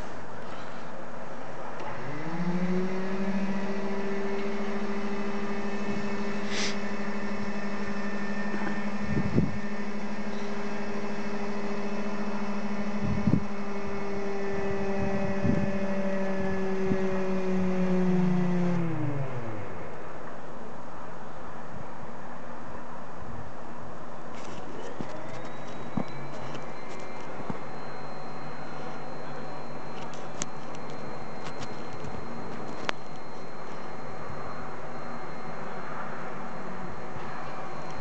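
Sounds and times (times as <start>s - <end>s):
aircraft engine motor whine: 0.0s - 38.0s.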